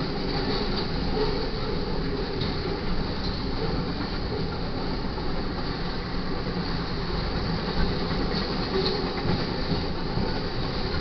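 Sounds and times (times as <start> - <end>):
freight train rumbling past: 0.0 - 11.0
wheels clacking over rail joints: 0.0 - 11.0.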